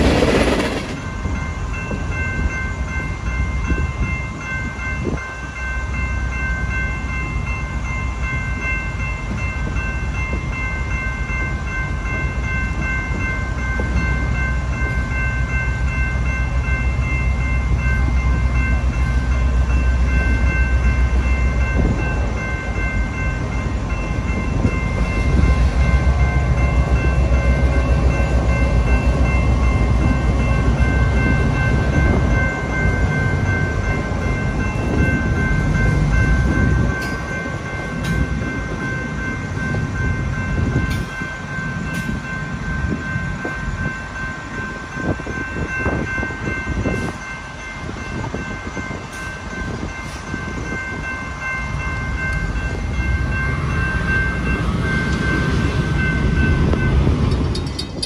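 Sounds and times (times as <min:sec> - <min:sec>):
wheels clattering on rails: 0:00.0 - 0:05.2, 0:08.4 - 0:58.0
freight train rumbling past: 0:00.0 - 0:58.0.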